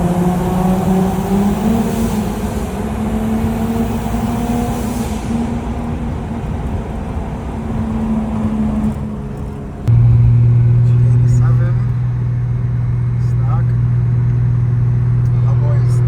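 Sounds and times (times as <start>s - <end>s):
car engine running: 0.0s - 16.0s
road noise rumble: 0.0s - 16.0s.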